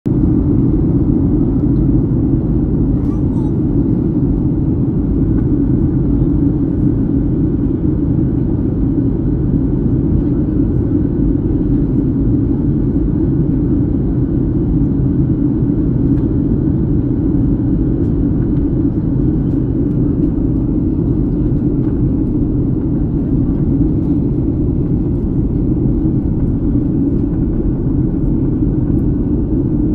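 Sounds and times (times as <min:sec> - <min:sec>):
jet engines droning: 0:00.1 - 0:29.9.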